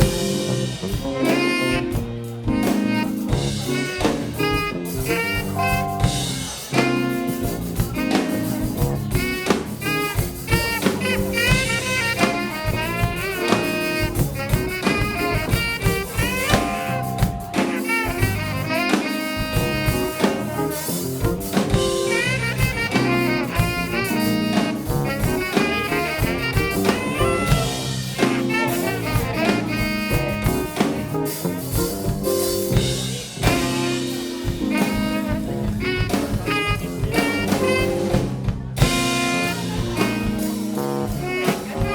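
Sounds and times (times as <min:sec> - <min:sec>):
bass: 0:00.0 - 0:41.9
drum kit: 0:00.0 - 0:41.9
piano: 0:00.0 - 0:41.9
saxophone lead: 0:00.0 - 0:41.9.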